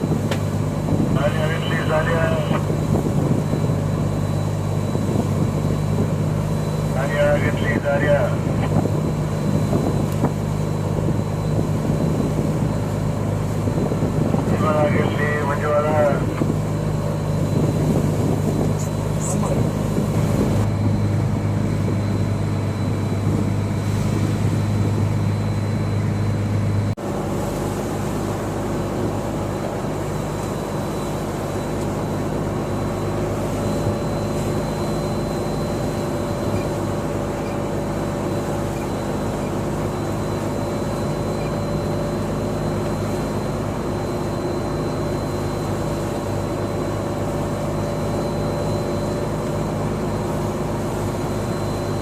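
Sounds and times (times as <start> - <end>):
boat engine droning hum: 0.0 - 52.0.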